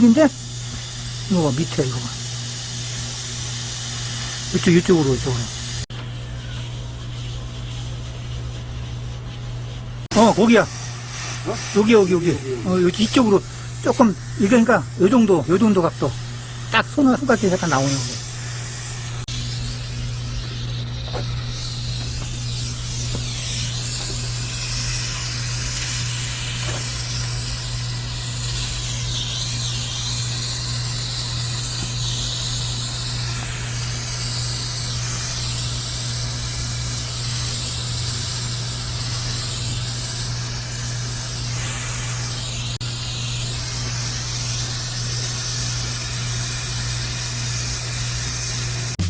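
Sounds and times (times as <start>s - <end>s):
pressurised gas hissing: 0.0s - 49.0s.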